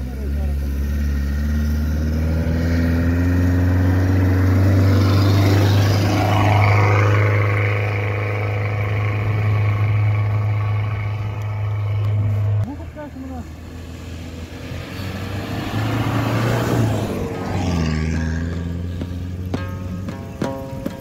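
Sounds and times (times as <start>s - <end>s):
chained tyres on packed snow: 0.0s - 21.0s
minivan engine labouring: 0.0s - 21.0s.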